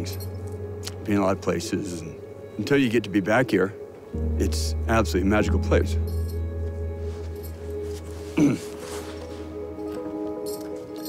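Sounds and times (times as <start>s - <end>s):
film music with low bass note: 0.0s - 11.0s.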